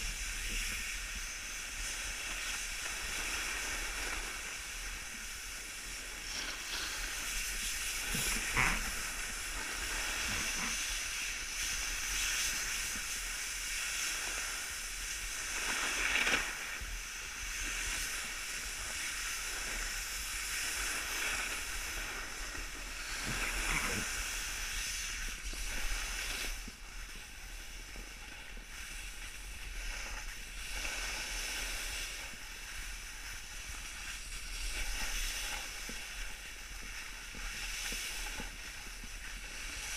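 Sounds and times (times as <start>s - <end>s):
sliding over packed snow: 0.0s - 39.9s.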